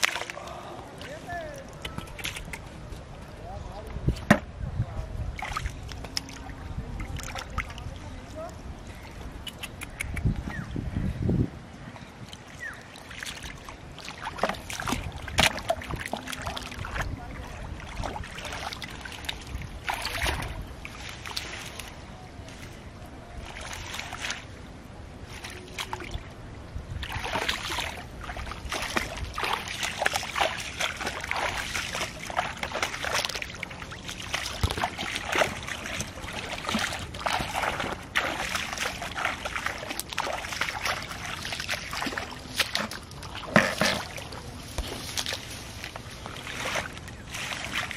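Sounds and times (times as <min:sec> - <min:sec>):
muddy water splashing: 0:00.0 - 0:03.1, 0:05.2 - 0:10.7, 0:11.9 - 0:47.9.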